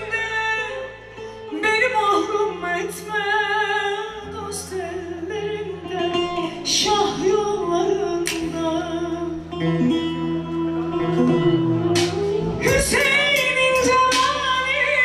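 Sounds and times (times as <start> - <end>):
bass guitar: 0.0 - 15.0
plucked string accompaniment: 0.0 - 15.0
woman singing into microphone: 0.0 - 15.0.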